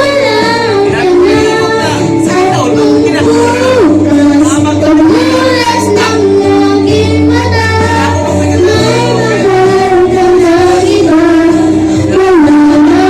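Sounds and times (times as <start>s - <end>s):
instrumental backing track: 0.0s - 13.0s
person singing long notes: 0.0s - 13.0s.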